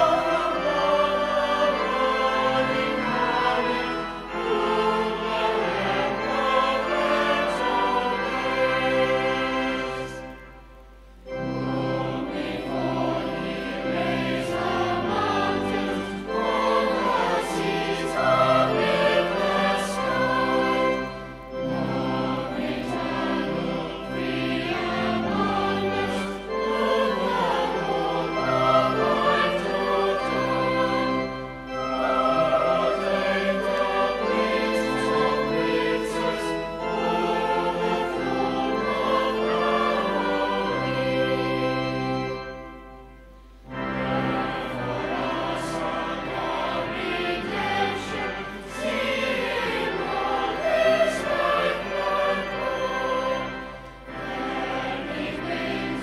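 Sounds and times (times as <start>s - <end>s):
choir singing a hymn: 0.0s - 56.0s
held accompanying chords: 0.0s - 56.0s.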